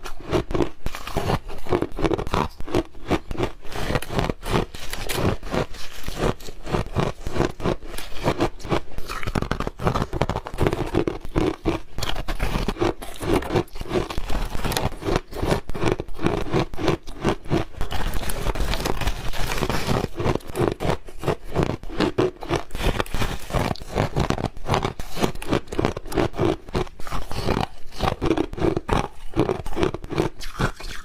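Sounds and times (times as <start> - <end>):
ice crunching between teeth: 0.0 - 31.0.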